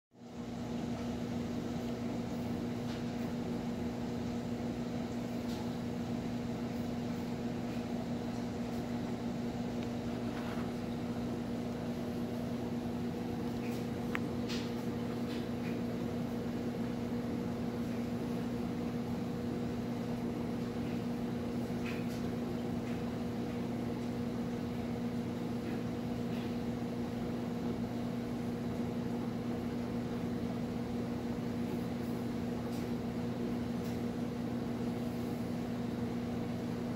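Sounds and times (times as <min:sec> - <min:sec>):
aquarium equipment humming: 0:00.2 - 0:36.9.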